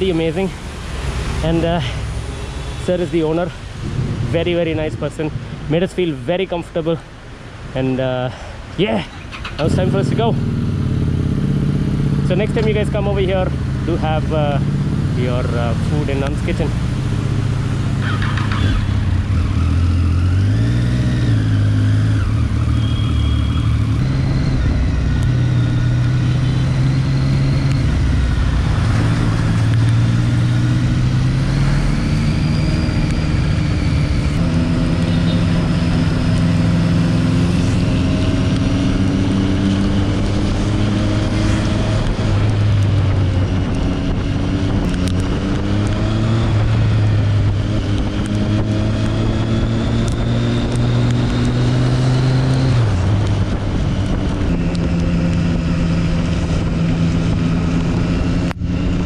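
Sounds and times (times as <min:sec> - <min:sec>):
motorcycle engine accelerating: 0:03.7 - 0:05.4, 0:09.1 - 0:59.0.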